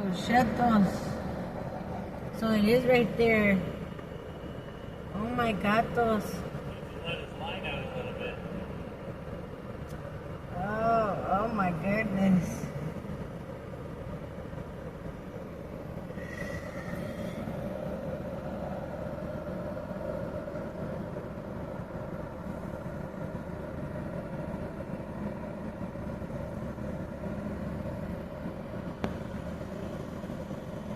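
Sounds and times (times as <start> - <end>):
engine drone and rumble: 0.0 - 30.9.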